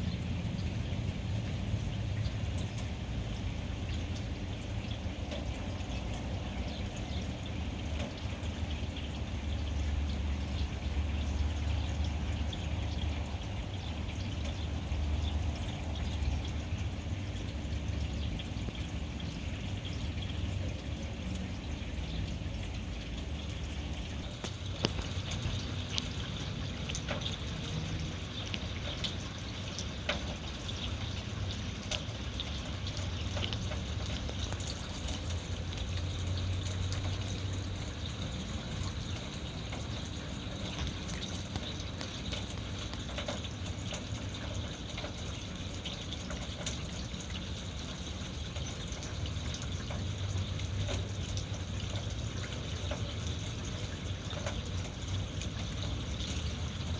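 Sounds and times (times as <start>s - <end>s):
rainwater trickling and pouring: 0.0s - 56.9s
sharp water drips: 0.0s - 56.9s.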